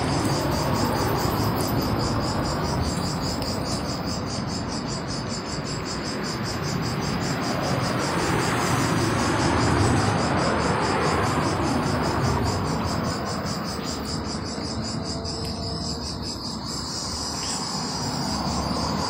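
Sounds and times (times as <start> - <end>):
insects chirping: 0.0 - 19.0
rushing background noise: 0.0 - 19.0.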